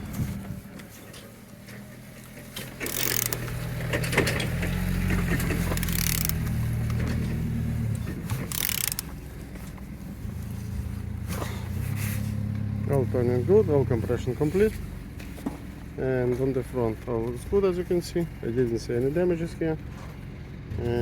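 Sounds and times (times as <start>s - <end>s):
engine clicking and ratcheting: 1.8s - 21.0s.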